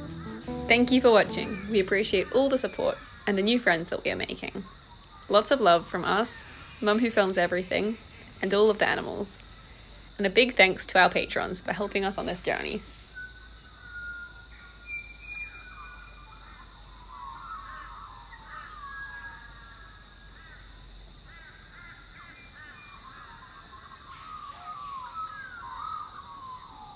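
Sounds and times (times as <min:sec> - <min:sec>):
birds chirping and warbling: 0:00.0 - 0:26.9.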